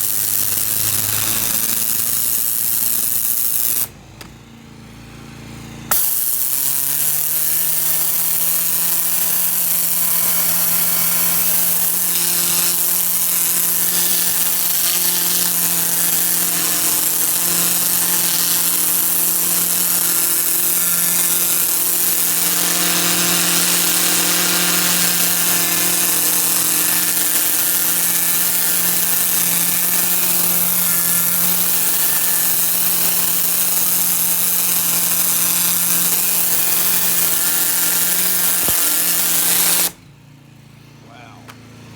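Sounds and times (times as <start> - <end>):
pressure washer machine hum: 0.0 - 41.9.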